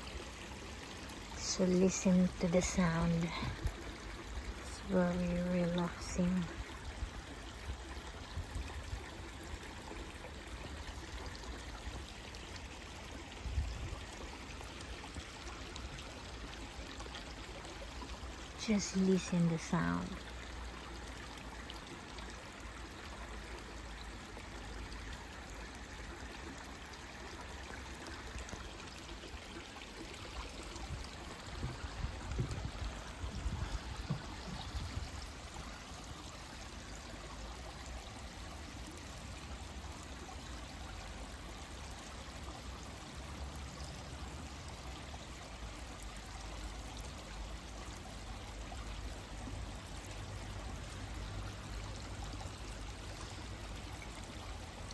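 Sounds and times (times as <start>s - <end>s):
stream flowing over rocks: 0.0s - 54.9s.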